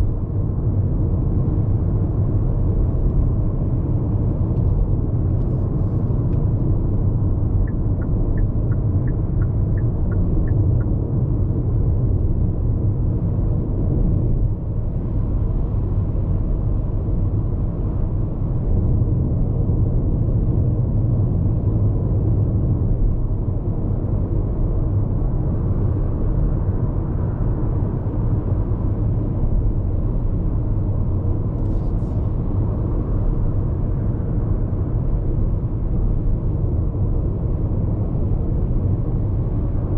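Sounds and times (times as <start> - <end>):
wind noise inside car: 0.0 - 39.9.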